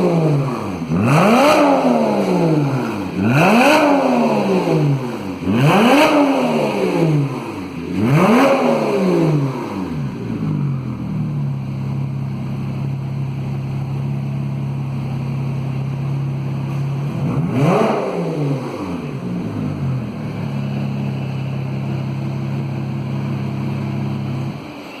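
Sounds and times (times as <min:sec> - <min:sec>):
car engine revving: 0:00.0 - 0:24.8
car engine idling: 0:00.0 - 0:25.0.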